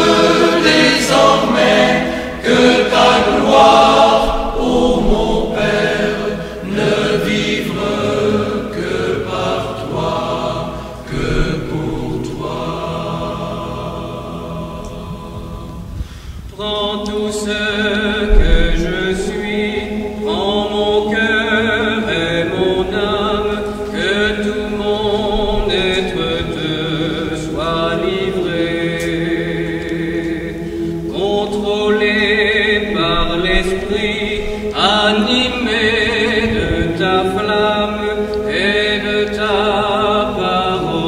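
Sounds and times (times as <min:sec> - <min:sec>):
person singing a hymn slowly: 0:00.0 - 0:41.0.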